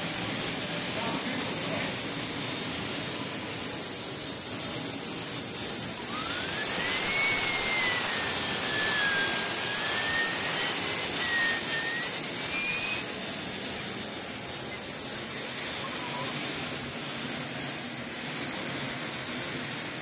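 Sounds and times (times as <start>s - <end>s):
gas turbine engine whine: 0.0s - 20.0s
lower wavering whine: 0.0s - 20.0s.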